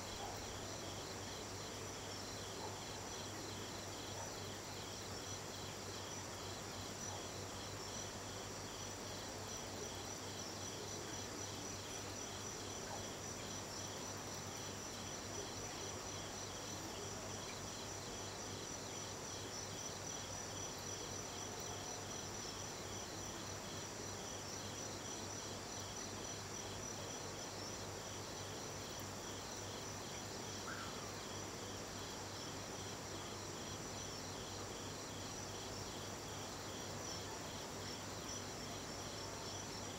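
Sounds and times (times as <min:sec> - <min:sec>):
rapidly pulsing cricket chirp: 0:00.0 - 0:39.9.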